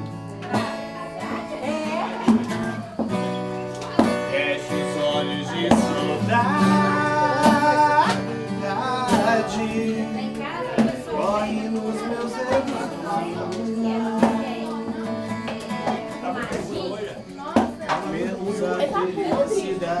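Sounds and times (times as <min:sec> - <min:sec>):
acoustic guitar song: 0:00.0 - 0:20.0.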